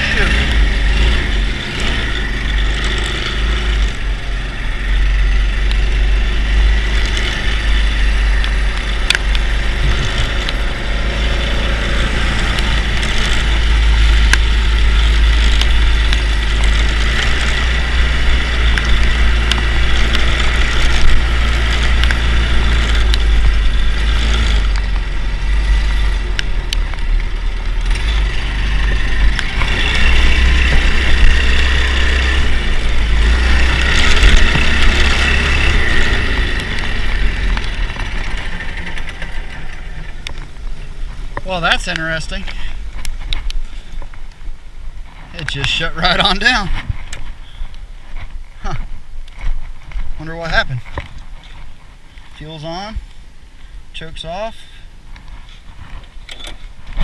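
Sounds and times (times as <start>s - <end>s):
go-kart engine running: 0.0s - 52.7s
heavy low rumble: 0.0s - 57.0s.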